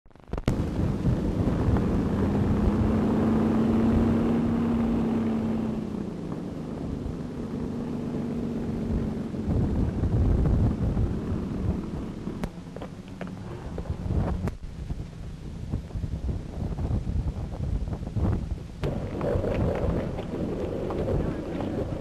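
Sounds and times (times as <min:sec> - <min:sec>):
old soundtrack hiss and rumble: 0:00.2 - 0:22.0
propeller engine running: 0:00.2 - 0:22.0.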